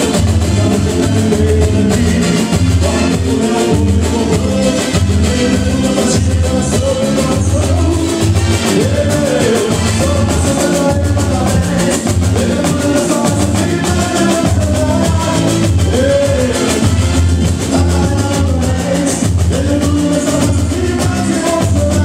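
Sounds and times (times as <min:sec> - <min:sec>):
bass and snare drums beat: 0:00.0 - 0:22.0
man singing into microphone: 0:00.0 - 0:22.0.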